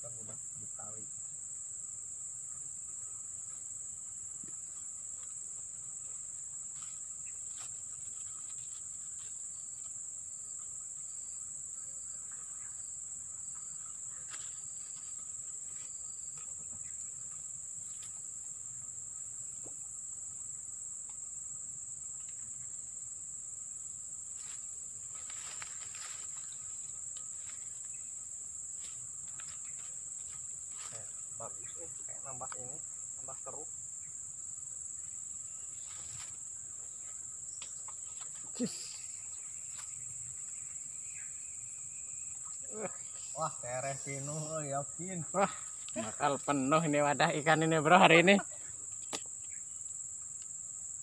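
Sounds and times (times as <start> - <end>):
insects chorus: 0.0 - 51.0.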